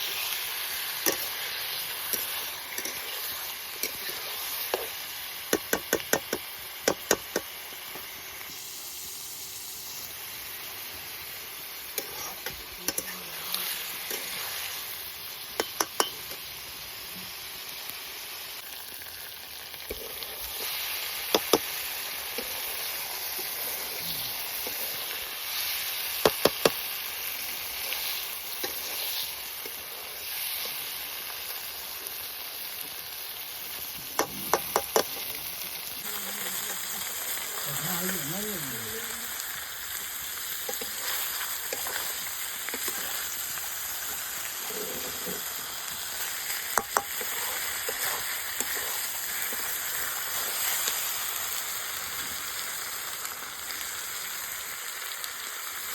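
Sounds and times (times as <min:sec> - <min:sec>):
chicken sizzling in a pan: 0:00.0 - 0:55.9.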